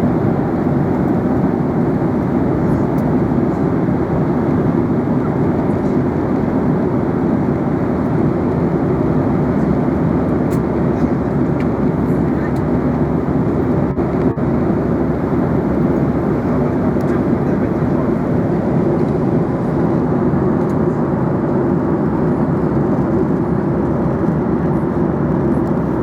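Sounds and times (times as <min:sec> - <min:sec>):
airliner cabin engine rush: 0:00.0 - 0:26.0.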